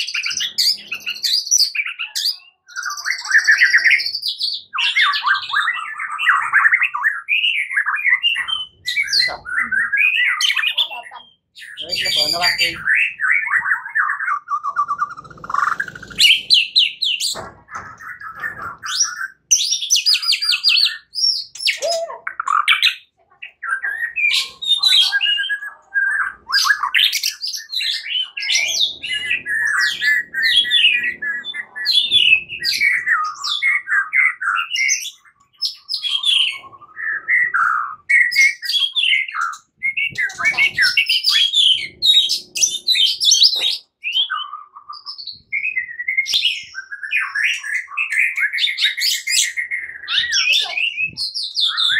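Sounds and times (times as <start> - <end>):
bird singing whistles and trills: 0.0 - 17.4, 18.0 - 51.9.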